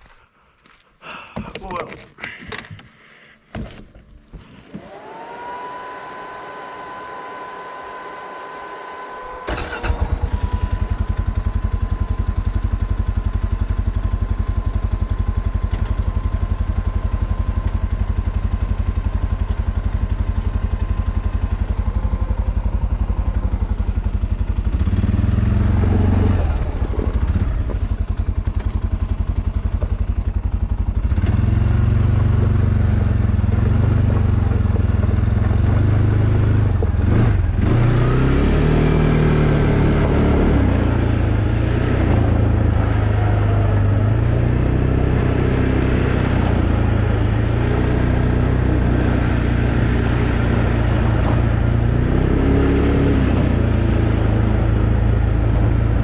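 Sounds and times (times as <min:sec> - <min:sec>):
atv engine idling and revving: 0:04.9 - 0:56.0.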